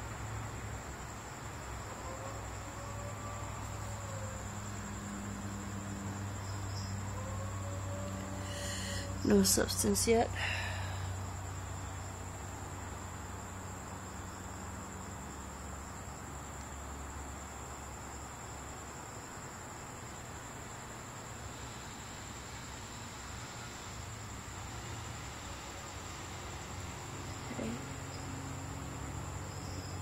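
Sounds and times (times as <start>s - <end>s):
even hiss: 0.0s - 30.0s.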